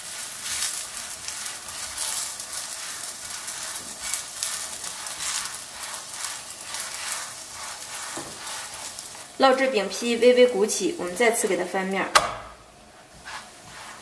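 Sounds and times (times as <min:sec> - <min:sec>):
spatula rubbing in pan: 0:00.0 - 0:12.0, 0:12.8 - 0:14.0
pancake sizzling in oil: 0:00.0 - 0:14.0.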